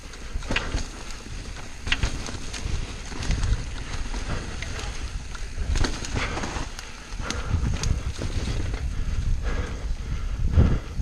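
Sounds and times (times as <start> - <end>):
heavy bike jolt: 0.0 - 9.2
tyres rumbling over dirt: 0.0 - 9.3
bike rattling and knocking: 0.0 - 10.9.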